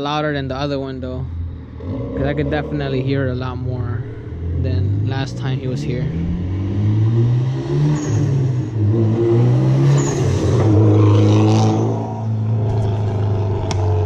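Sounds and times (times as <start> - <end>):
car engine revving past: 1.3 - 14.0.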